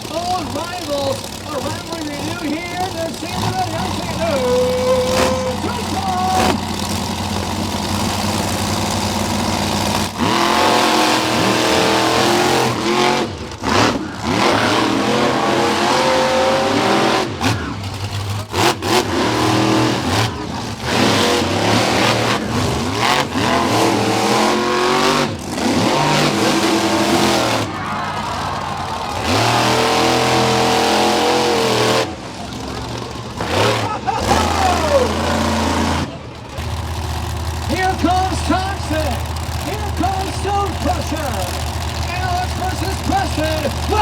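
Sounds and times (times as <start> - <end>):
monster truck engines revving: 0.0 - 44.0.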